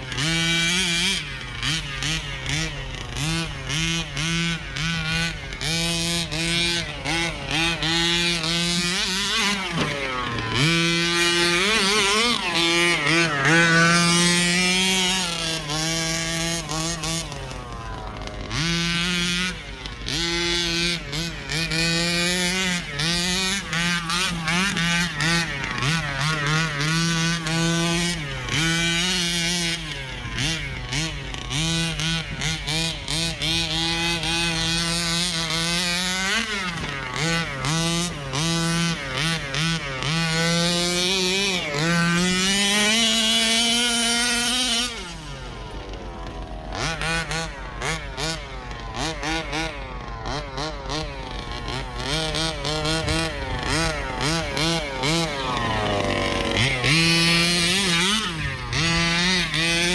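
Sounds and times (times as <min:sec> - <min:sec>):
two-stroke rc car engine buzzing: 0:00.0 - 0:59.9.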